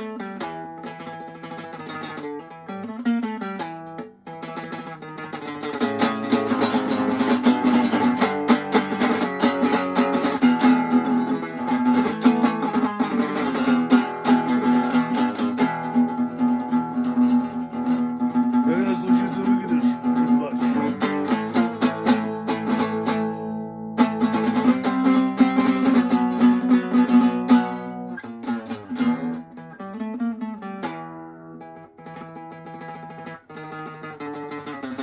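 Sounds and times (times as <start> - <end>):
guitar playing: 0.0 - 35.0.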